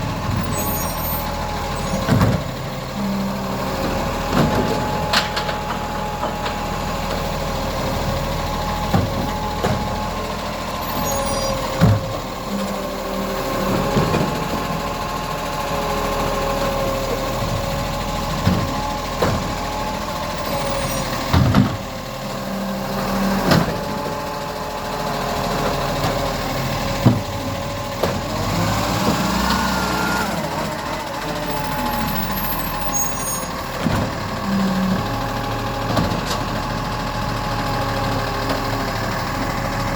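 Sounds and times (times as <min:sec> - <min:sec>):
garbage truck mechanical hum: 0:00.0 - 0:39.9.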